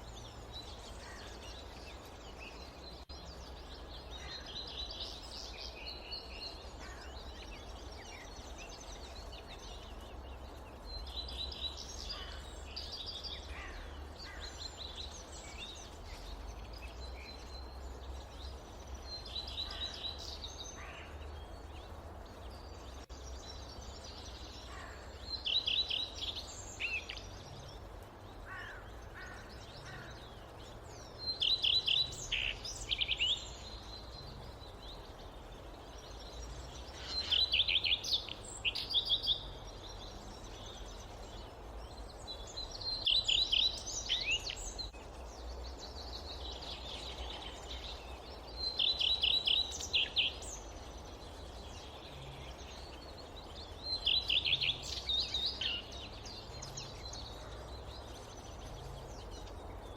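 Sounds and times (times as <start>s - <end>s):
low background noise: 0.0s - 59.9s
songbird singing: 0.0s - 59.9s.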